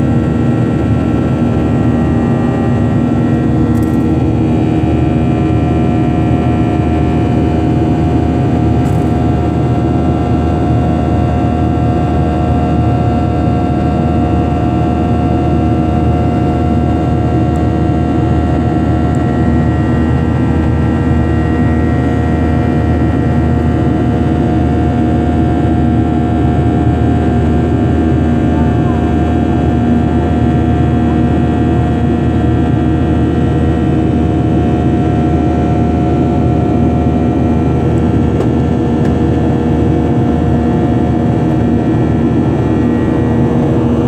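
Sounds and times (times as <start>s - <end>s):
jet engine drone: 0.0s - 44.0s.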